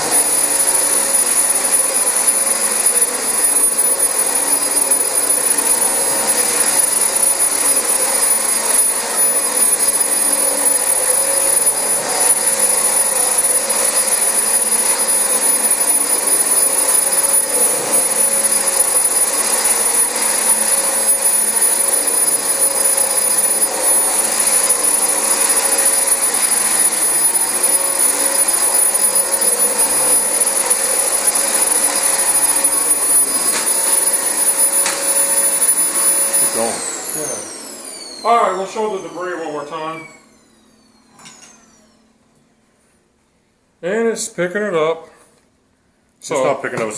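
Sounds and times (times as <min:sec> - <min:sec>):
vacuum cleaner running over carpet: 0:00.0 - 0:40.1.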